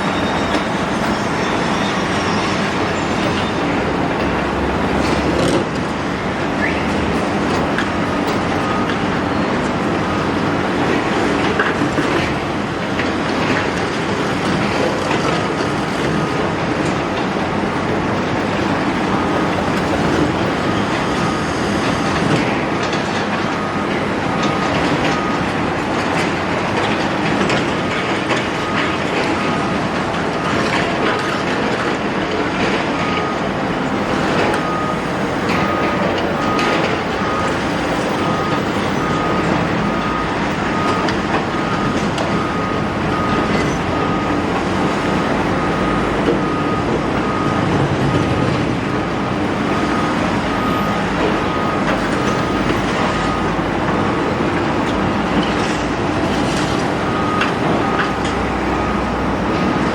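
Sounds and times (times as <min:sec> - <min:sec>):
high beeping alarm: 0:00.0 - 0:14.8, 0:18.8 - 0:59.9
diesel engine running under load: 0:00.0 - 0:59.9.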